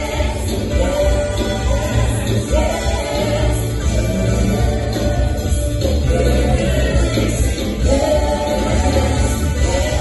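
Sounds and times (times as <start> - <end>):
group singing gospel song: 0.0 - 10.0
live band with heavy bass: 0.0 - 10.0.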